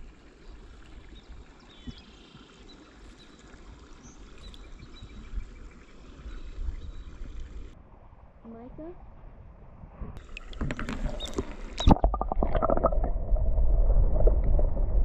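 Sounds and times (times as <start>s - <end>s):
low rumble of wind and water: 0.0s - 15.0s.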